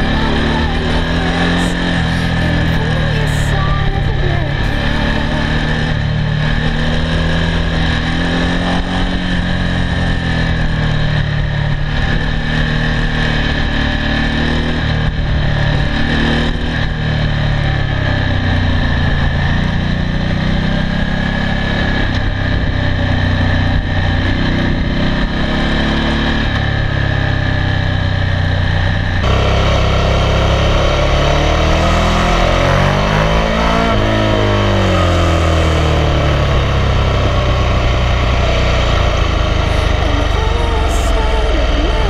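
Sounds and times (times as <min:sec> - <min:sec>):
motorcycle engine at road speed: 0:00.0 - 0:42.0.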